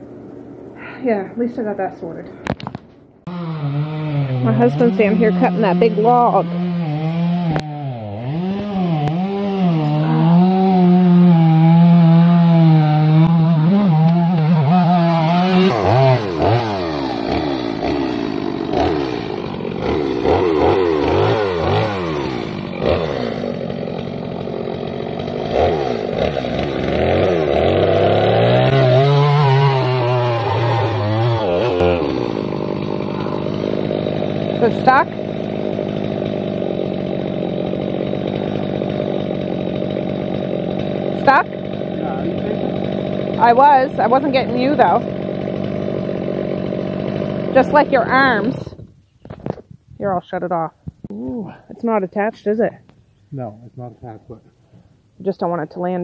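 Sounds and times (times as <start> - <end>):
chainsaw cutting log: 2.5 - 49.6.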